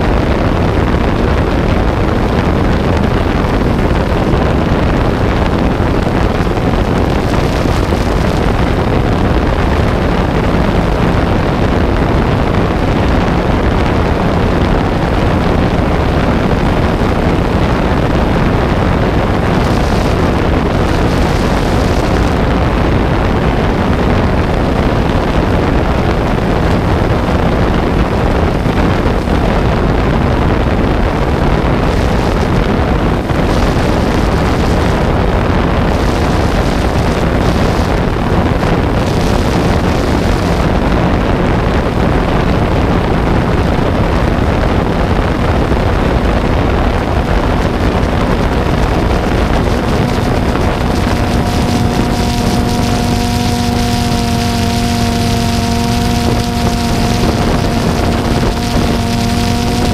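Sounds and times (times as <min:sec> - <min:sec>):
faint steady hum: 0:00.0 - 0:59.9
wind buffeting microphone: 0:00.0 - 0:59.9.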